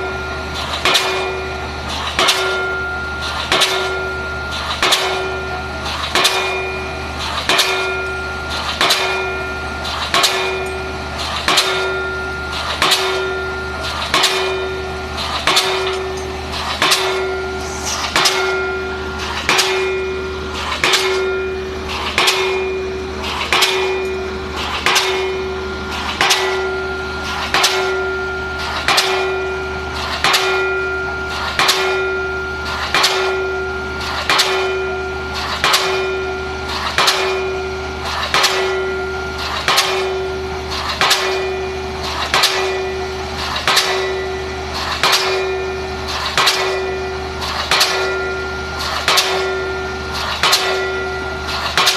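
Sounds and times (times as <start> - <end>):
pile hammer blows clanging: 0.0 - 51.9.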